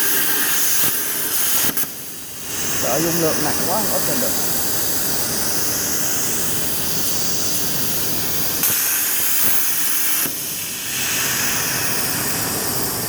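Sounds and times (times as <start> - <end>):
plasma torch hissing: 0.0 - 13.0.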